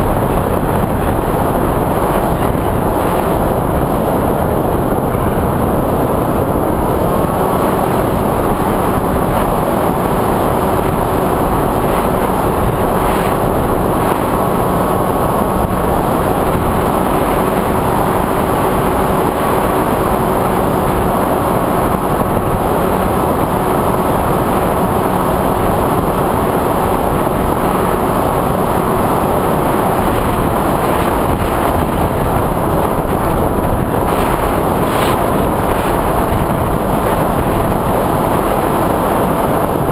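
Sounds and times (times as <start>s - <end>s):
drone propeller and motor noise: 0.0s - 39.9s
wind rushing over microphone: 0.0s - 39.9s.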